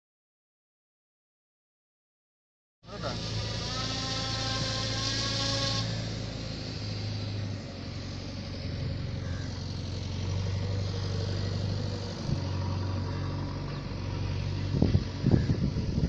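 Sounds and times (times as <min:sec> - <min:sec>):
rc plane motor and propeller droning: 0:02.8 - 0:16.0.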